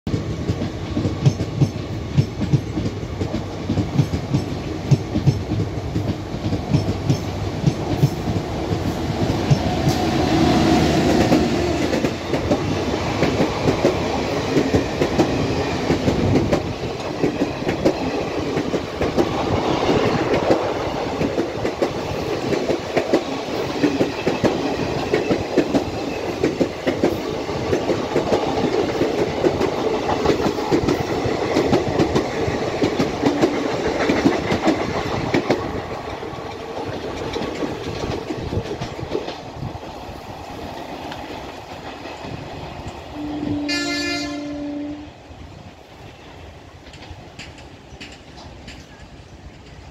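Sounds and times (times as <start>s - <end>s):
train wheels clattering: 0.1s - 44.4s, 45.6s - 49.9s.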